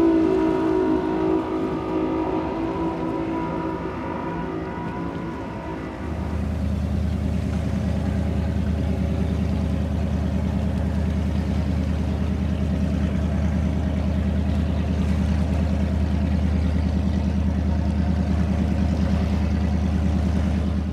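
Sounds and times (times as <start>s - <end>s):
powerboat engine idling: 0.0s - 20.9s.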